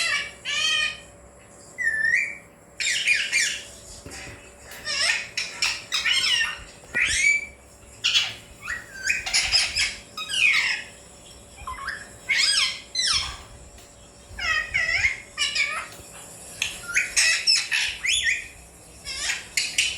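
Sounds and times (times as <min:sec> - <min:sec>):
parakeet squawking: 0:00.0 - 0:01.1, 0:01.8 - 0:19.9.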